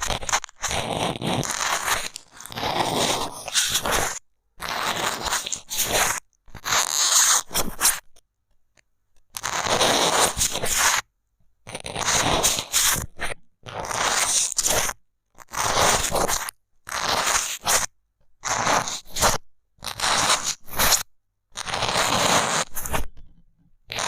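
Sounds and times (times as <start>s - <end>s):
stick scraping microphone: 0.0s - 8.1s, 9.4s - 11.1s, 11.7s - 24.0s.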